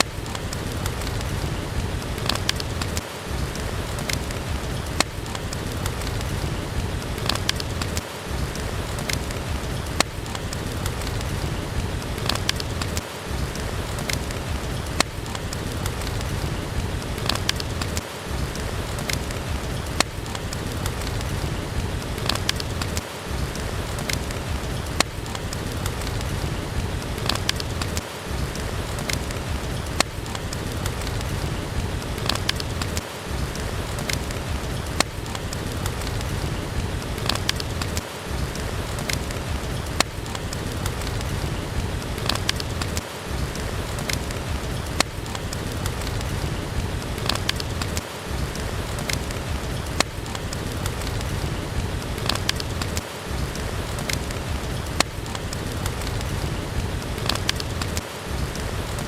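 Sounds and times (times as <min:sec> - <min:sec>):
sharp pops and ticks: 0:00.0 - 0:59.0
steady rain: 0:00.0 - 0:59.0
wood fire crackling: 0:00.0 - 0:59.0.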